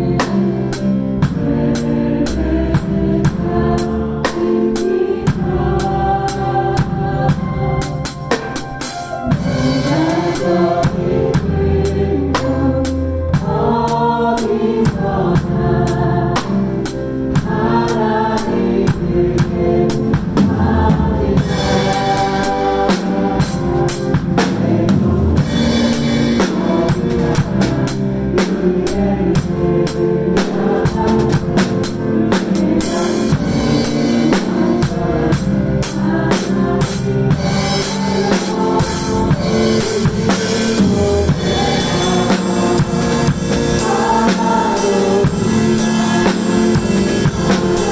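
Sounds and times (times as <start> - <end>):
drum kit playing: 0.0 - 47.9
worship song with band and singing: 0.0 - 47.9.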